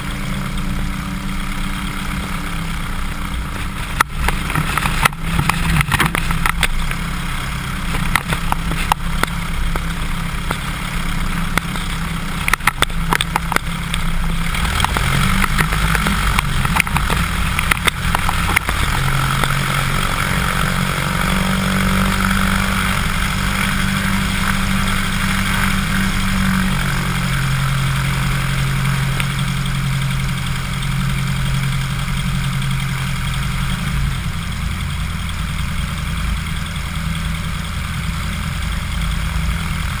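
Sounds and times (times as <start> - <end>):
light aircraft engine and propeller: 0.0 - 40.0.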